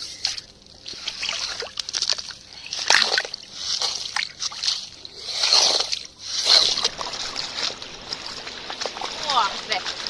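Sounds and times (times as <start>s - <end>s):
seawater splashing and sloshing: 0.0s - 10.0s.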